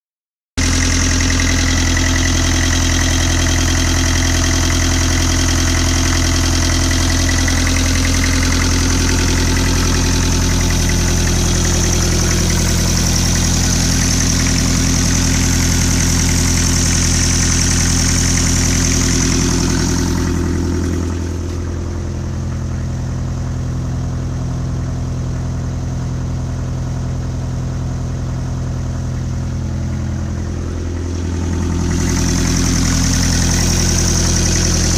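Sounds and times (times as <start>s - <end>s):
diesel engine idling: 0.6s - 34.9s.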